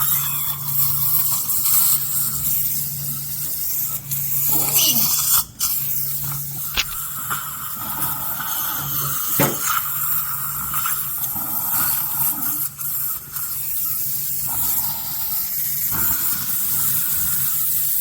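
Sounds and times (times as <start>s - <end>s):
dental scaler whine: 0.0s - 18.0s.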